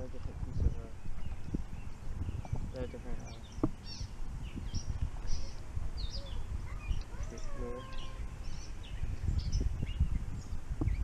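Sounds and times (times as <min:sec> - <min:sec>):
low microphone rumble: 0:00.0 - 0:11.0
small birds chirping: 0:00.0 - 0:11.0.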